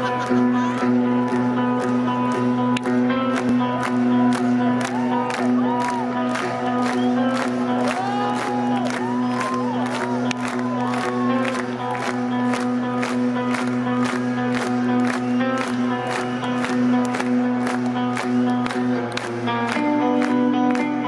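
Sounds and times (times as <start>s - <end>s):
crowd noise and applause: 0.0s - 21.0s
live rock band playing: 0.0s - 21.0s.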